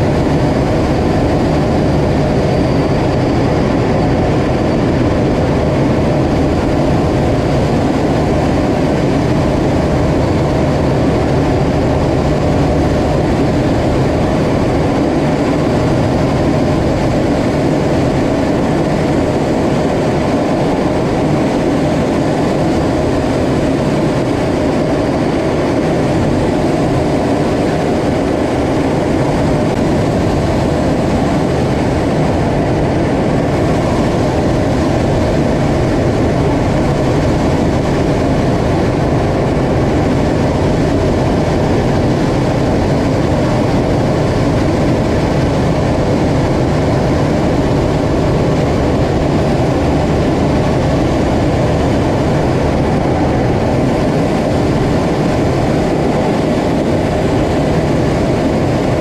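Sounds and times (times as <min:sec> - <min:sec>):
jet engine and airflow rumble: 0:00.0 - 0:59.0.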